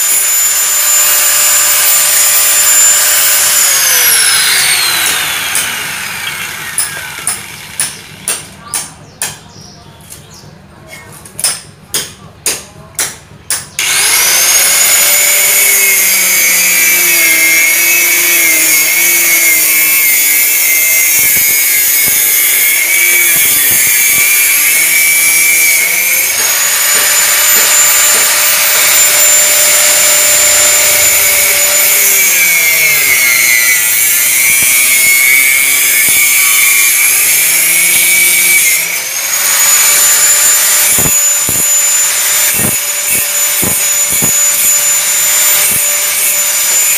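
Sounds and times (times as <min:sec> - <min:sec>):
angle grinder cutting steel: 0:00.0 - 0:08.6, 0:13.0 - 0:46.9.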